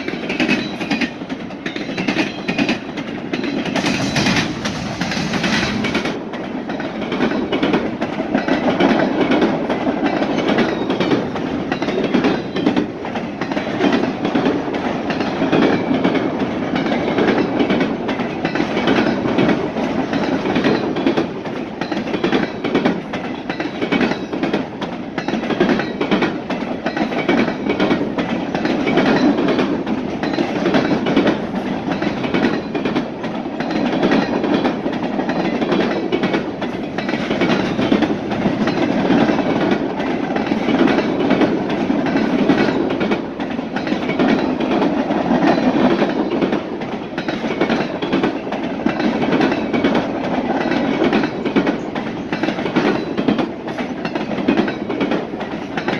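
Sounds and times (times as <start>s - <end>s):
freight train rumbling past: 0.0s - 55.9s
train wheel clicks on rail joints: 0.0s - 55.9s.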